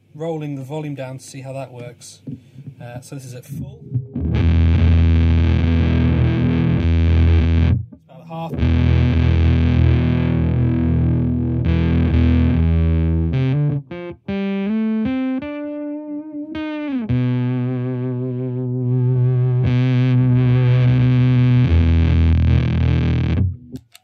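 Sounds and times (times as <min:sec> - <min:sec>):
distorted electric guitar: 0:03.4 - 0:24.0.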